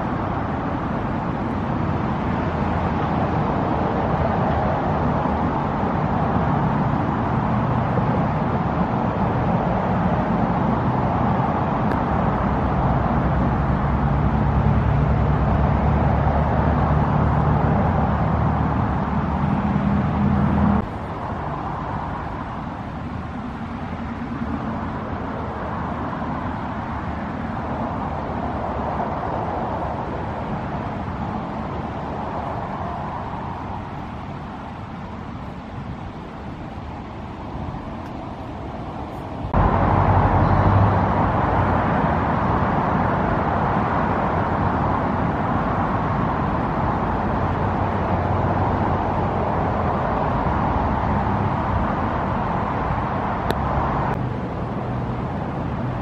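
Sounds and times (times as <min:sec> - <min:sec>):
heavy engine rumble: 0:00.0 - 0:56.0
passing road traffic: 0:00.0 - 0:56.0.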